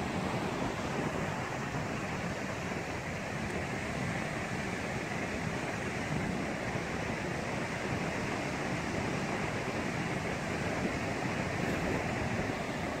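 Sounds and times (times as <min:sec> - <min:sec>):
surf breaking on a beach: 0:00.0 - 0:13.0
wind buffeting microphone: 0:00.0 - 0:13.0.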